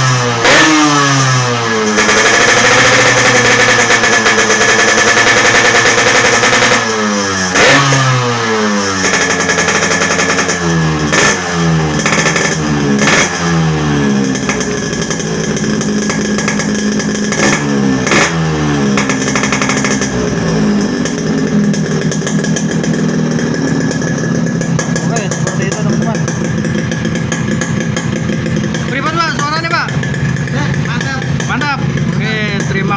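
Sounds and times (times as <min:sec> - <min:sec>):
exhaust cracks: 0:00.0 - 0:32.9
two-stroke motorcycle engine revving: 0:00.0 - 0:32.9.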